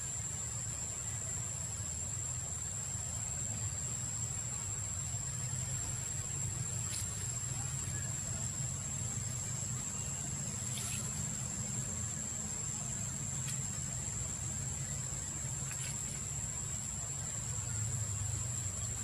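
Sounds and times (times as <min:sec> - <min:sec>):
constant low rumble: 0:00.0 - 0:19.0.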